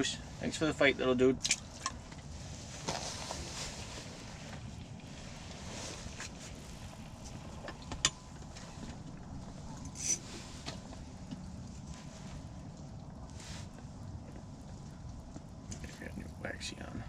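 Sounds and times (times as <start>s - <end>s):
handling rustle: 2.0s - 16.1s.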